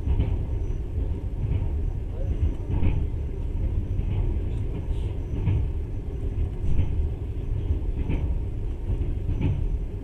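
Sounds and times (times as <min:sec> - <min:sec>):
train rumble from on board: 0:00.0 - 0:10.0.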